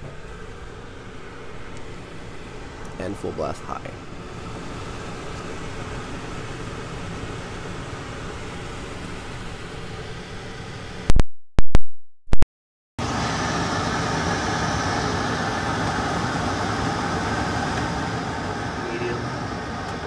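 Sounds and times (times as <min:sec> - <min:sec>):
range hood fan running: 0:00.0 - 0:11.1, 0:13.0 - 0:20.0.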